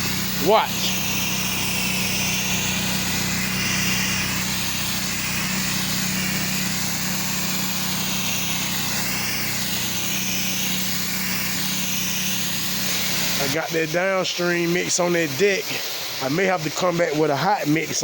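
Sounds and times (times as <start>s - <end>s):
high-pressure water spray hissing: 0.0s - 18.0s
pressure washer engine humming: 0.0s - 18.0s.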